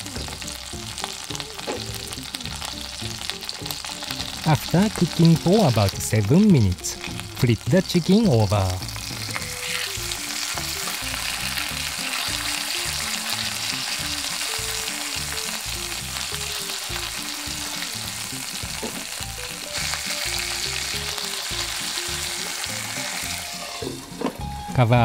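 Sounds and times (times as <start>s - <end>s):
chicken sizzling in a frying pan: 0.0s - 24.0s
soft background music: 0.0s - 25.0s.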